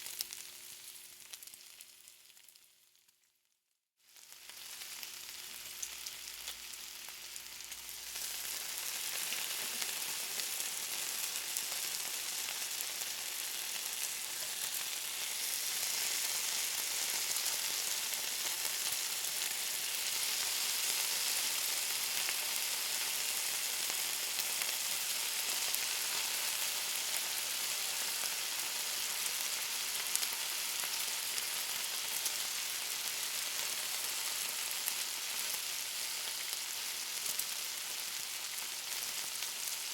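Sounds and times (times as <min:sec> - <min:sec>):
bacon sizzling: 0:00.0 - 0:03.2, 0:04.1 - 0:39.9.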